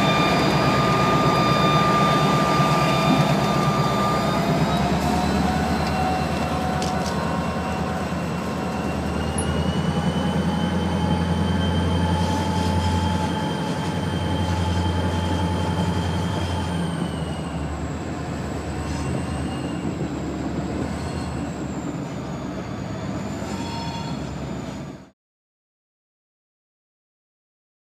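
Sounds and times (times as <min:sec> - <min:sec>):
locomotive engine drone: 0:00.0 - 0:25.1.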